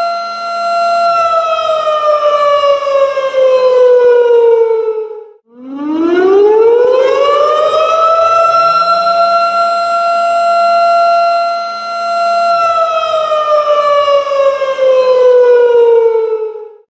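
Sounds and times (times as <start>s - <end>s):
warning siren wailing: 0.0s - 16.9s.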